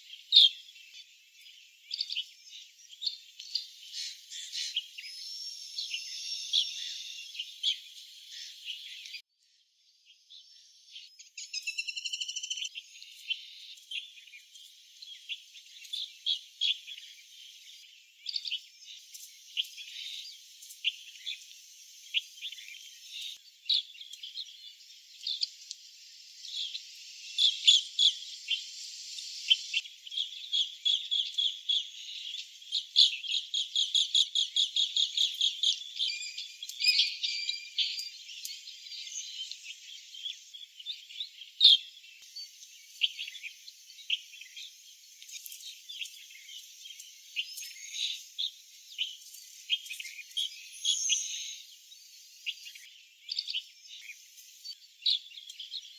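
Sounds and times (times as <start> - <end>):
birds trilling chirps: 0.0 - 55.9.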